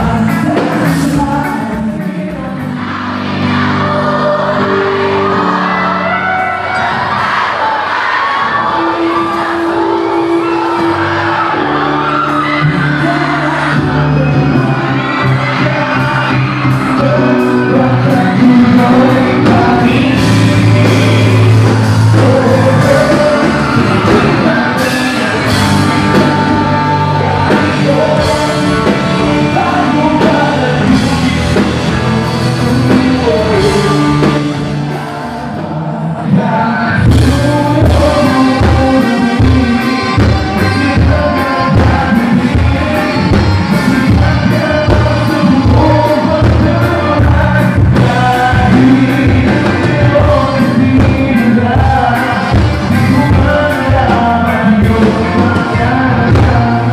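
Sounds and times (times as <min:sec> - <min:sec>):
lead singer singing: 0:00.0 - 0:56.9
live rock band playing: 0:00.0 - 0:56.9.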